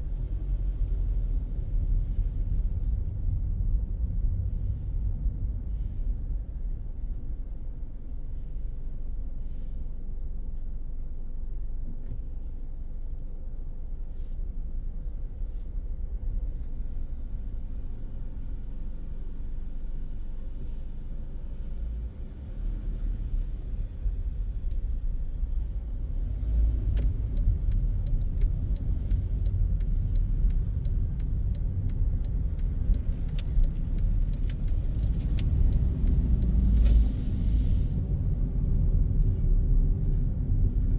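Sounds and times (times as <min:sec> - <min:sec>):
road and engine rumble in car: 0:00.0 - 0:40.9.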